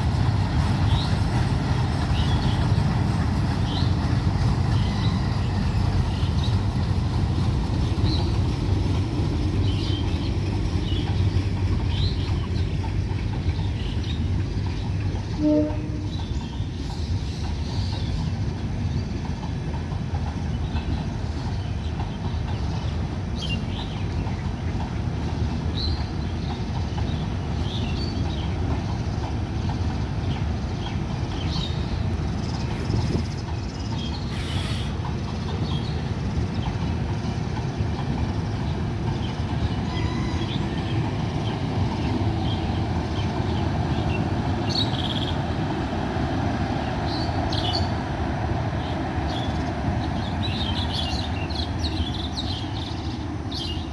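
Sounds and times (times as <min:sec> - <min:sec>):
train rumbling on track: 0:00.0 - 0:53.9.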